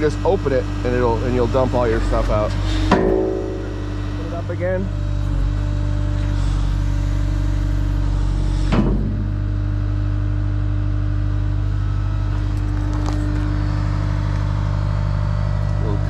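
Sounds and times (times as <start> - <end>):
diesel loader engine running: 0.0 - 16.0.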